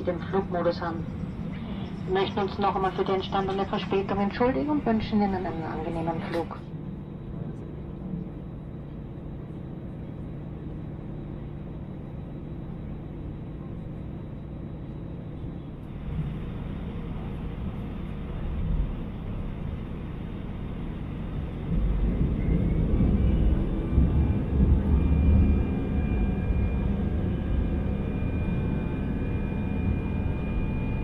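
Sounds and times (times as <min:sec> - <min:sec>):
faint high whine: 0:00.0 - 0:31.0
jet engine rumble in cabin: 0:00.0 - 0:31.0.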